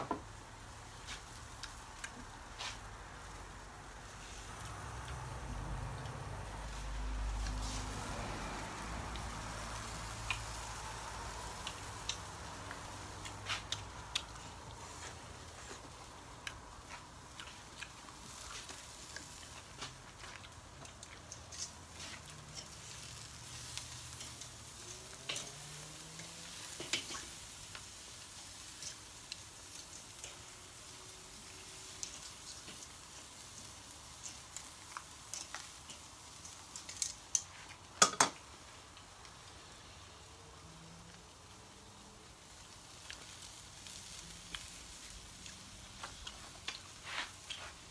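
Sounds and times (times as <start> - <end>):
shellfish sizzling on a grill: 0.0 - 47.9.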